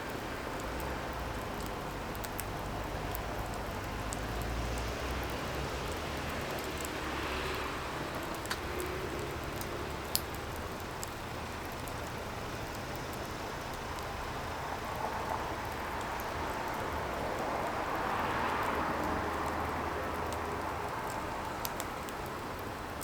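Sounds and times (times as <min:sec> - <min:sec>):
firewood crackling and popping: 0:00.1 - 0:23.0.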